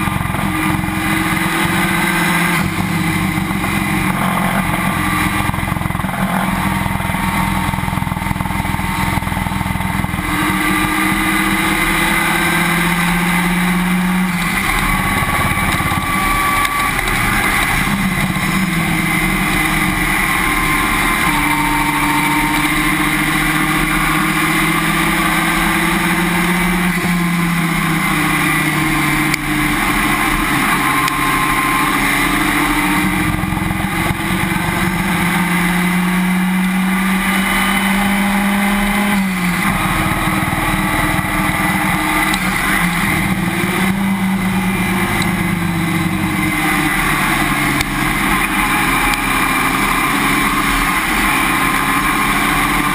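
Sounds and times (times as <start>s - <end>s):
race car engine: 0.0s - 52.9s
road and wind rush: 0.0s - 52.9s.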